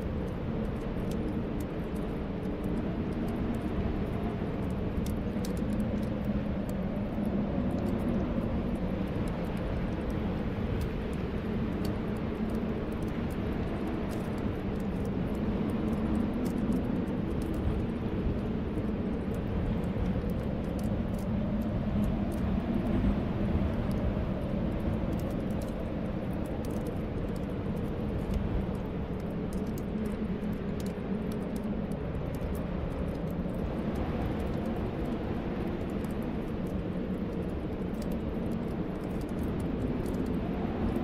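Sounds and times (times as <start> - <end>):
fireplace fire crackling: 0.0 - 41.0
snowstorm wind whistling: 0.0 - 41.0.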